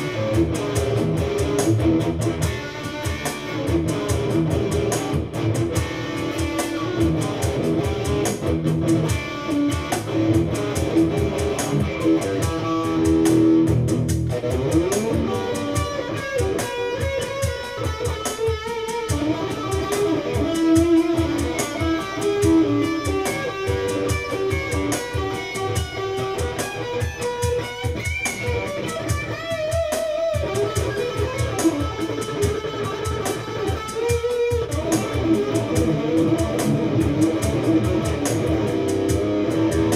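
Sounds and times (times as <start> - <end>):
electric guitar with string bends: 0.0 - 39.9.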